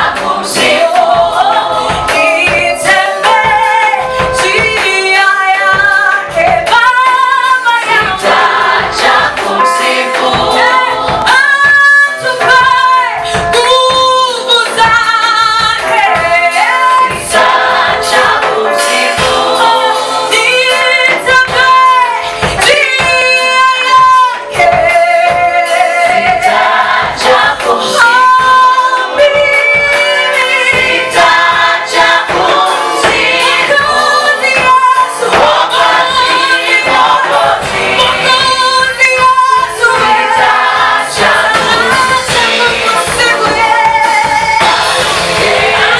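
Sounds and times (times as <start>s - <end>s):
choir singing gospel song: 0.0s - 45.9s.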